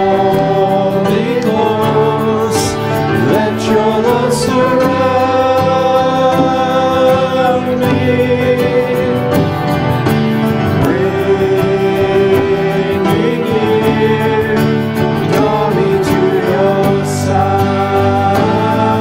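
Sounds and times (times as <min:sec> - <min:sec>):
instrumental accompaniment: 0:00.0 - 0:19.0
person singing worship song: 0:00.0 - 0:19.0.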